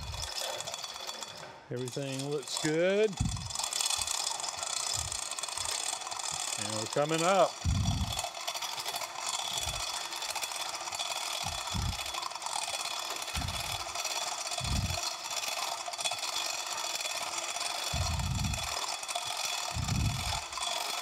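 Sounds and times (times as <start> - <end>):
chain hoist rattling and clicking: 0.0 - 21.0.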